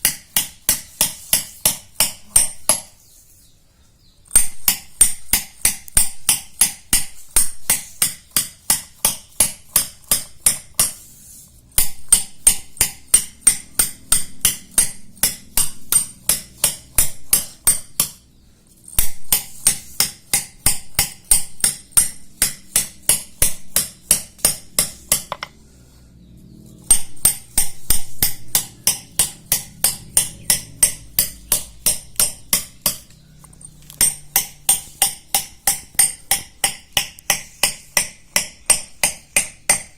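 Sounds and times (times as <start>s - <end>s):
hammer tapping steel chisel on stone: 0.0s - 3.0s, 4.3s - 11.0s, 11.8s - 18.2s, 18.9s - 25.6s, 26.8s - 39.9s.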